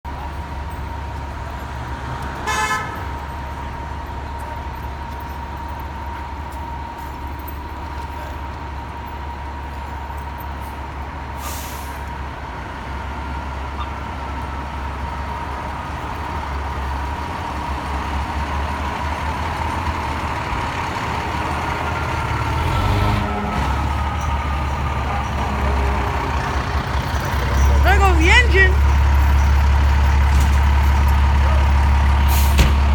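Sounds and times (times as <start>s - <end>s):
fire engine rumble: 0.0s - 32.9s.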